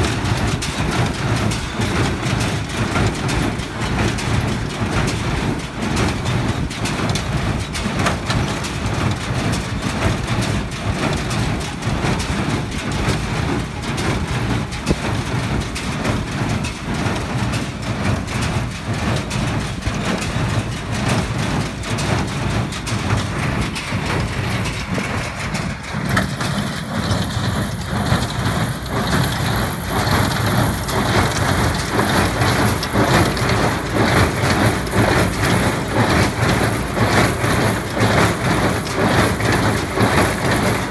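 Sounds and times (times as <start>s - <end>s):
baler clattering: 0.0s - 40.9s
engine rumbling: 0.0s - 40.9s.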